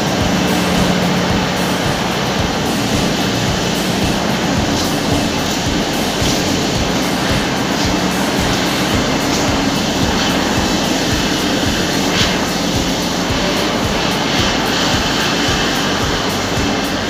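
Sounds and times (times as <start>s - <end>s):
machinery running loudly: 0.0s - 17.0s.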